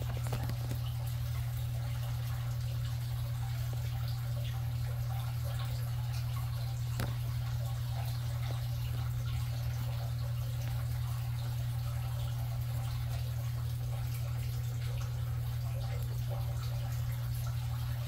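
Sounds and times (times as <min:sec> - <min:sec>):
steady low hum: 0:00.0 - 0:18.0
water dripping and trickling: 0:00.0 - 0:18.0.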